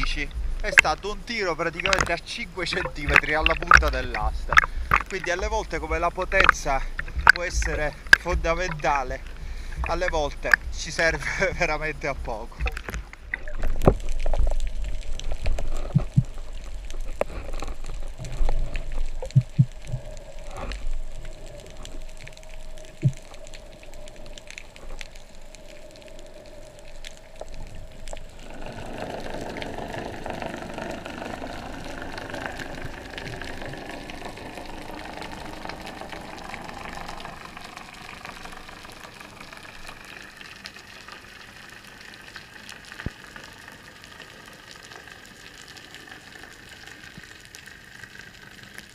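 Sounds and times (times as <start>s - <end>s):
steady hiss: 0.0s - 48.9s
underwater rushing: 0.0s - 48.9s.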